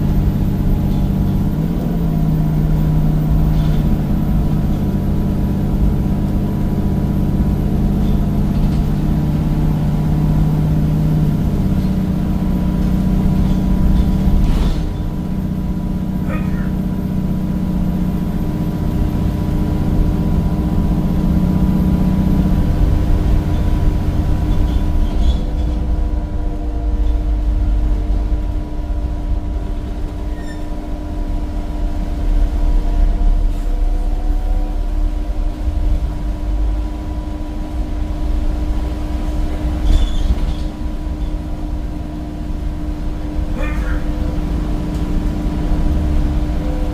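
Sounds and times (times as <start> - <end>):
bus diesel engine droning: 0.0 - 46.9
low road rumble: 0.0 - 46.9.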